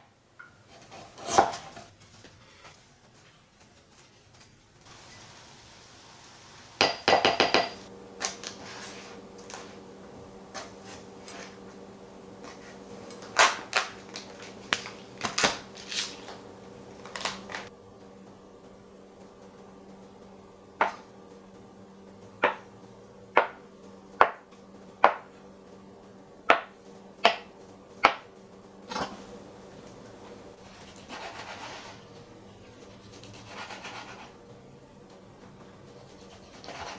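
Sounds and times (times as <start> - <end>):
steady appliance hum: 0.0 - 36.9.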